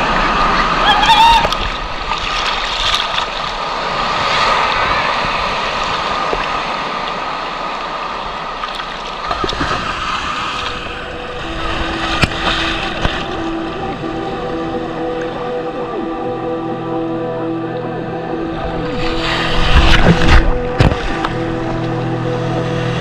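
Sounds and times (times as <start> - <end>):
sea waves surging: 0.0 - 23.0.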